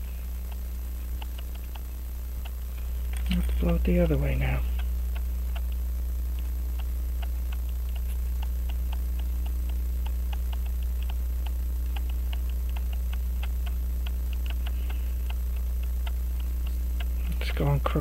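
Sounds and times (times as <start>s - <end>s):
steady low hum: 0.0s - 18.0s
clockwork ticking: 1.2s - 2.6s, 3.6s - 18.0s.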